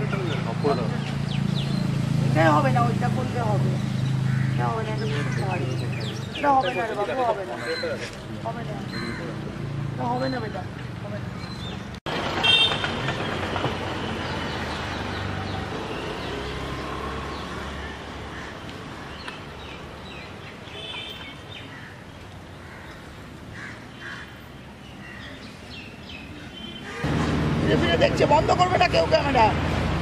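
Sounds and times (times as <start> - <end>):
low traffic rumble: 0.0 - 30.0.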